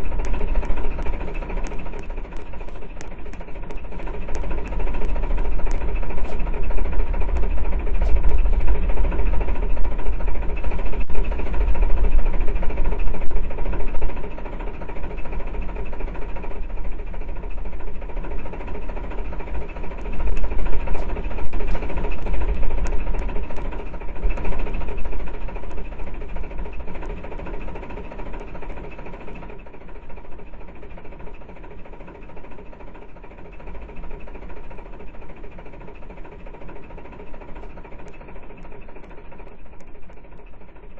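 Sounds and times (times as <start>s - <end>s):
engine low rumble: 0.0s - 40.9s
small clicks and rattles: 0.0s - 40.9s.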